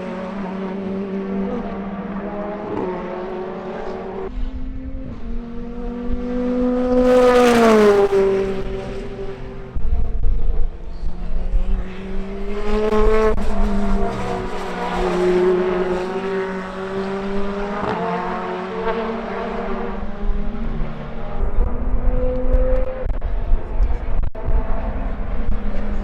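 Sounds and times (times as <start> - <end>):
racing car engine accelerating: 0.0 - 26.0.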